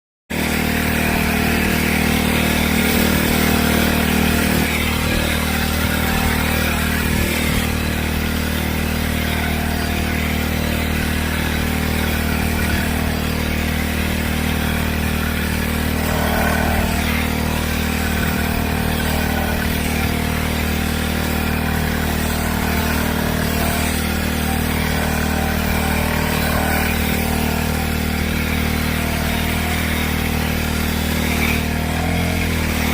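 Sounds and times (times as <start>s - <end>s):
engine running steadily: 0.3s - 32.9s.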